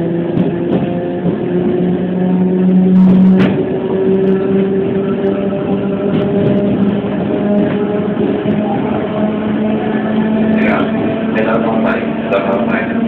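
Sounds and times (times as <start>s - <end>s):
train wheels rumbling: 0.0s - 13.0s
train motor whine: 0.3s - 13.0s.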